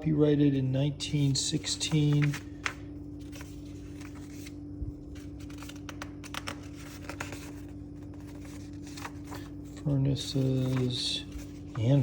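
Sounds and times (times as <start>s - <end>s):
low electrical hum: 0.0s - 12.0s
book pages rustling: 1.2s - 12.0s.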